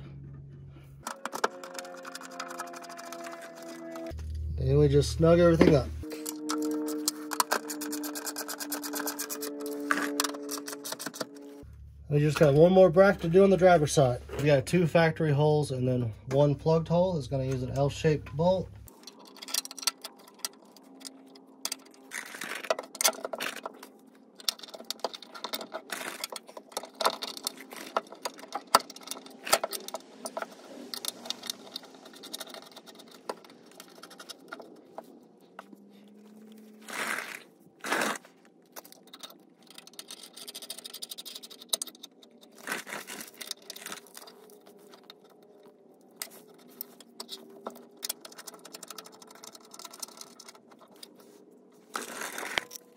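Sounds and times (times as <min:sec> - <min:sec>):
metal hardware clinking and scraping: 0:01.0 - 0:11.7, 0:18.8 - 0:35.7, 0:36.9 - 0:52.9.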